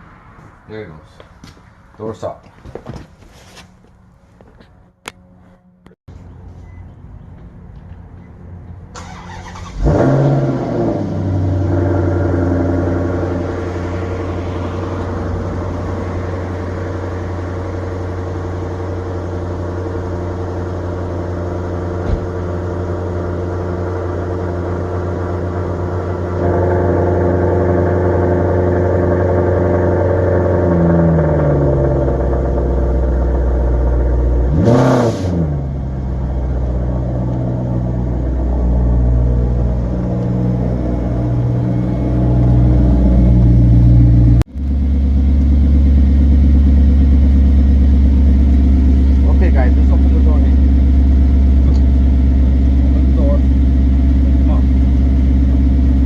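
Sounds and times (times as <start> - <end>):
car engine starting and idling: 8.2 - 56.0.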